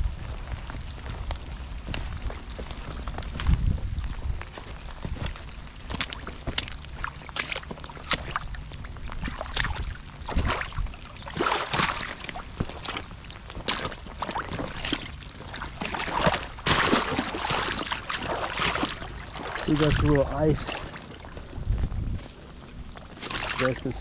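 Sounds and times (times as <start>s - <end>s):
boots splashing through water: 0.9s - 24.0s.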